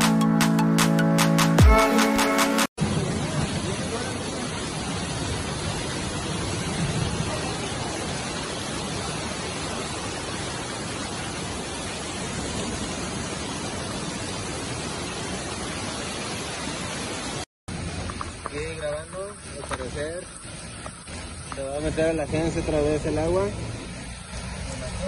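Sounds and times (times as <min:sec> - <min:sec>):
floodwater rushing: 0:01.8 - 0:25.0.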